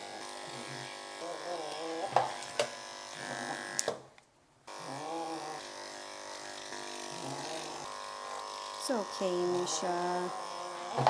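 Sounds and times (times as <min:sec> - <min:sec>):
electric clippers buzzing: 0:00.0 - 0:04.1, 0:04.7 - 0:11.0.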